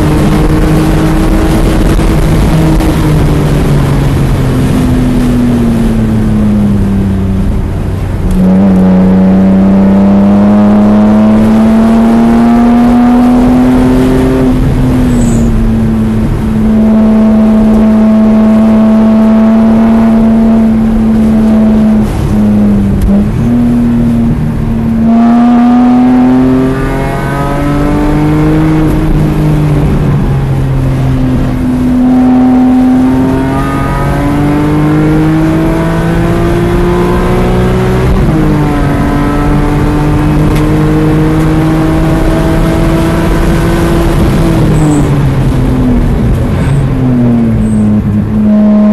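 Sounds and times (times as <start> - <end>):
car engine revving from inside cabin: 7.4 - 48.9.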